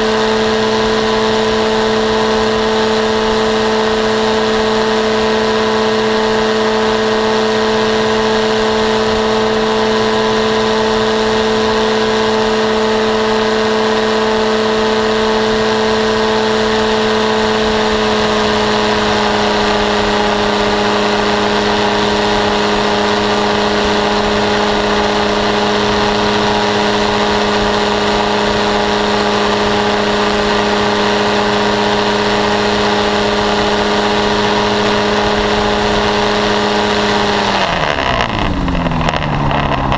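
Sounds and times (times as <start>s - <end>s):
paramotor engine and propeller drone: 0.0s - 39.9s.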